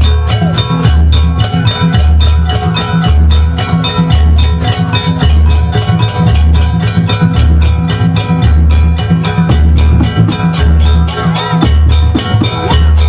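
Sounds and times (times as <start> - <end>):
deep bass beat: 0.0 - 13.0
hand drums: 0.0 - 13.0
ringing metal percussion: 0.0 - 13.0.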